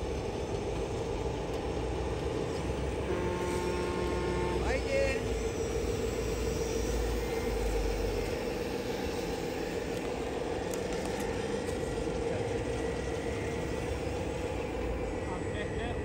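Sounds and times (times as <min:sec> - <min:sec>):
model machinery electric whine: 0:00.0 - 0:16.0.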